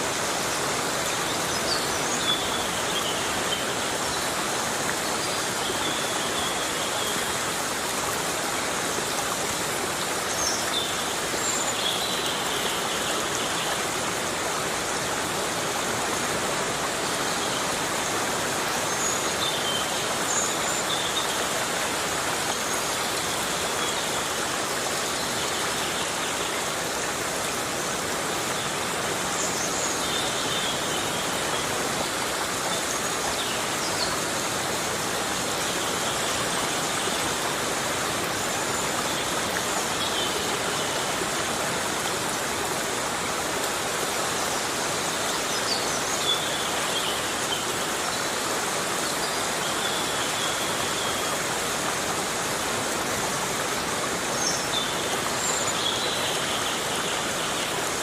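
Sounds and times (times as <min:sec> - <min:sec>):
heavy rain on forest: 0:00.0 - 0:58.0.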